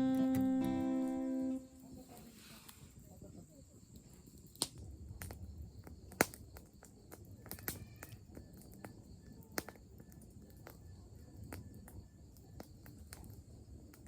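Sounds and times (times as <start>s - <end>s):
faint insect chirping: 0.0s - 14.0s.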